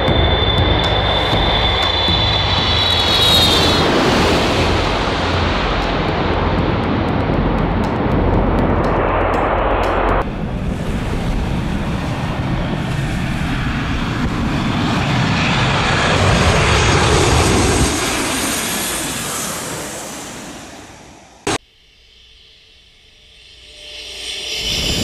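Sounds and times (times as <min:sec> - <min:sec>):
jet engines roaring: 0:00.0 - 0:21.6.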